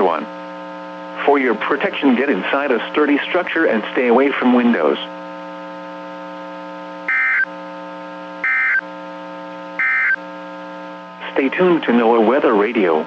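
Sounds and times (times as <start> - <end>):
steady electrical buzz: 0.0 - 13.0.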